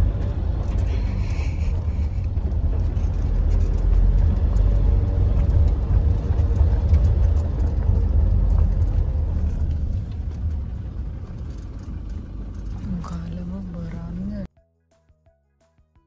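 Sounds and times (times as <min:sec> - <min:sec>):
car road and engine rumble: 0:00.0 - 0:14.5.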